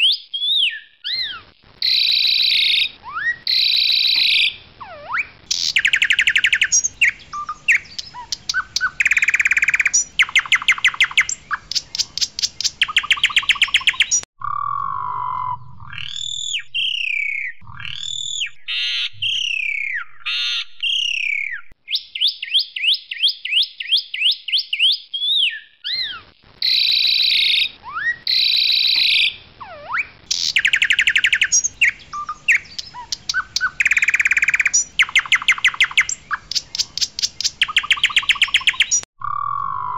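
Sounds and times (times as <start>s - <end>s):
bird singing: 0.0s - 39.9s
slurred bird whistles: 0.0s - 39.9s.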